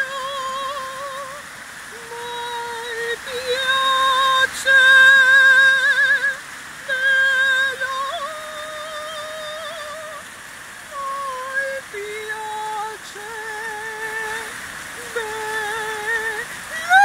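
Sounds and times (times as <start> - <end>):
woman singing operatically: 0.0 - 10.3, 10.9 - 17.0
fountain water splashing: 0.0 - 17.0.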